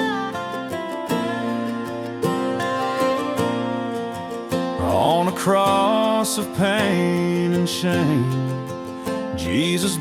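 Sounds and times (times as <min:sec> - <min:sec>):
acoustic guitar strumming: 0:00.0 - 0:10.0
sliding lead guitar line: 0:00.0 - 0:10.0.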